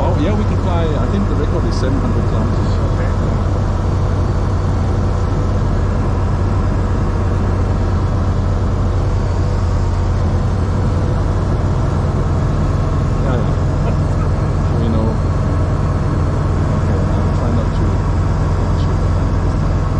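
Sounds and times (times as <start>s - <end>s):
aircraft engine and propeller droning: 0.0s - 19.9s.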